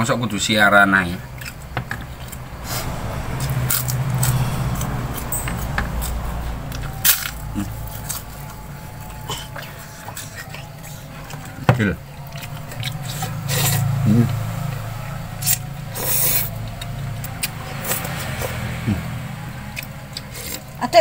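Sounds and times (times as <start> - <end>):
low hum: 0.0 - 21.0
chewing and mouth noises: 1.2 - 20.8.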